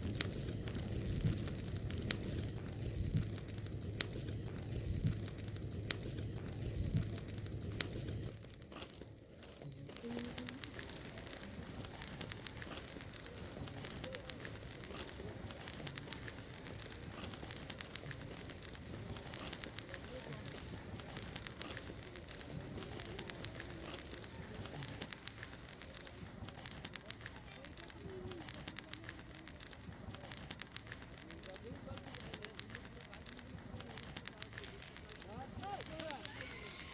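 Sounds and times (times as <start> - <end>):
bonfire crackling and popping: 0.0 - 36.9
low rumble of flames: 0.0 - 36.9.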